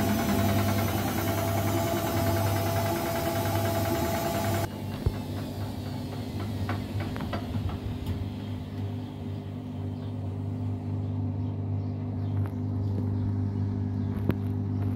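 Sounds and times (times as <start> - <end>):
washing machine motor hum: 0.0 - 14.9.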